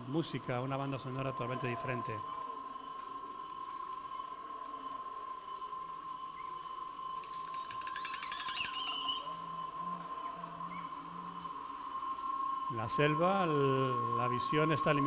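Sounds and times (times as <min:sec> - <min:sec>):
high insect drone: 0:00.0 - 0:15.0
low repeated calls: 0:00.0 - 0:15.0
pulsing insect calls: 0:00.0 - 0:15.0.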